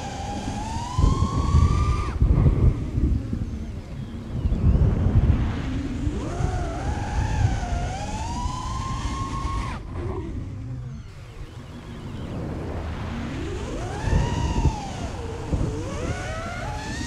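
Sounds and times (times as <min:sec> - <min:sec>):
quadcopter motors whining: 0:00.0 - 0:17.0
wind buffeting microphone: 0:00.0 - 0:17.0.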